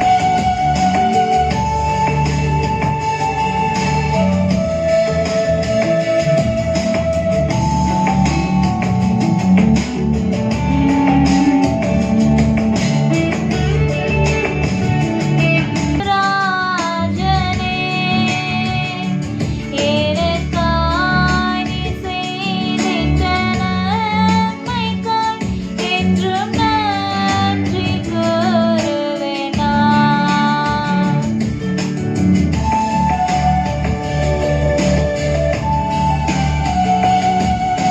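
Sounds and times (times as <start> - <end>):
guitar accompaniment: 0.0 - 37.9.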